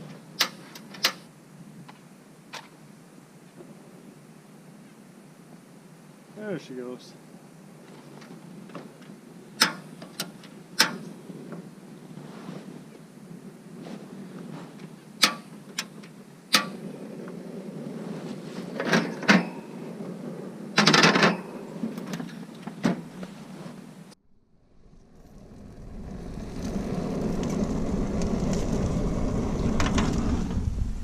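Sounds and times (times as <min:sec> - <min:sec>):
fire burning with crackles: 0:01.6 - 0:20.8, 0:21.5 - 0:31.0.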